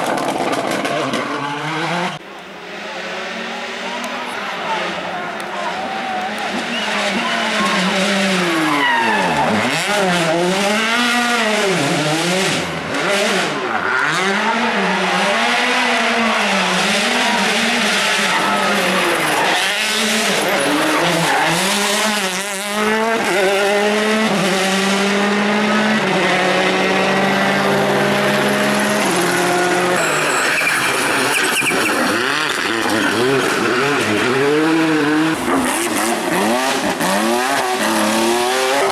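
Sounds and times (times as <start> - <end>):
rally car engine revving: 0.0 - 38.9
tyres skidding and squealing: 0.0 - 38.9.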